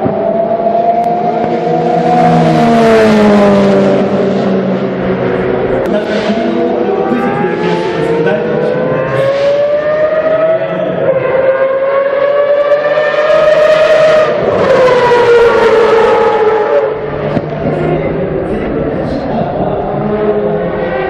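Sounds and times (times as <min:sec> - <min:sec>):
race car engine: 0:00.0 - 0:21.0.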